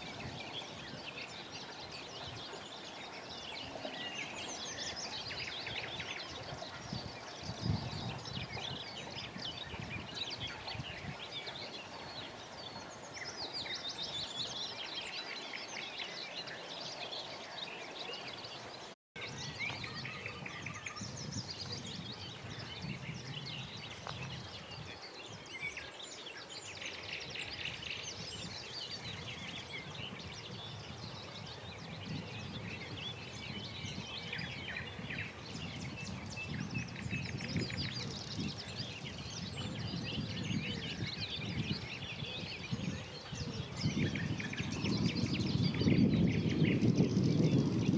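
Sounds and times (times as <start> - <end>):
birds chirping chorus: 0.0 - 47.9.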